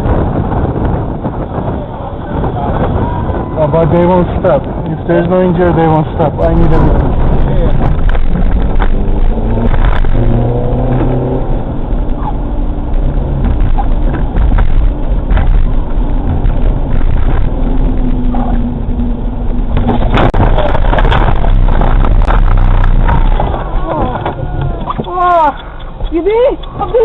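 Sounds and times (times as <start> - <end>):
car engine hum with road noise: 0.0 - 27.0.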